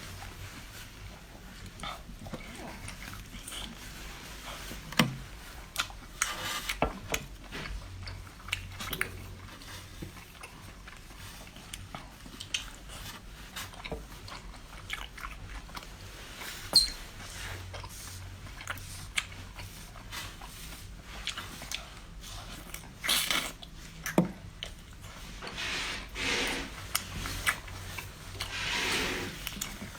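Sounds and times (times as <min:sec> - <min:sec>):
chewing crunchy food: 0:00.0 - 0:25.4.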